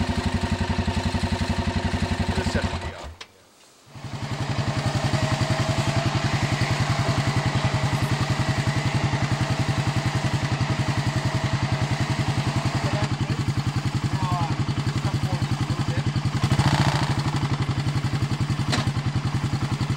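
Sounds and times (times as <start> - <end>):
atv engine idling: 0.0 - 3.2, 3.9 - 19.9.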